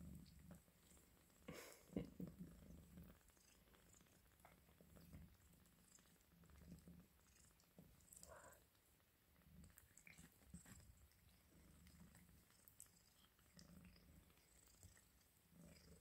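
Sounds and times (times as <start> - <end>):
cat purring faintly: 0.0 - 16.0.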